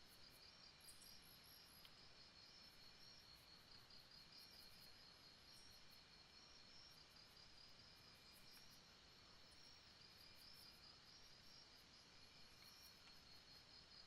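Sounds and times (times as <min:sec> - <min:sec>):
soft background hiss: 0:00.0 - 0:14.0
crickets trilling: 0:00.1 - 0:14.0.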